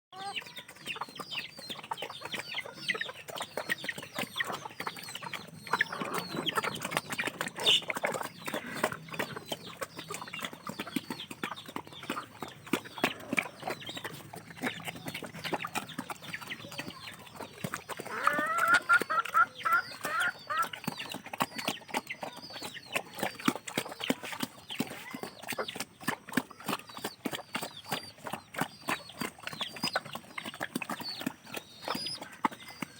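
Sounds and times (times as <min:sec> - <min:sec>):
chicks cheeping: 0:00.1 - 0:32.9
hen clucking: 0:00.1 - 0:32.9.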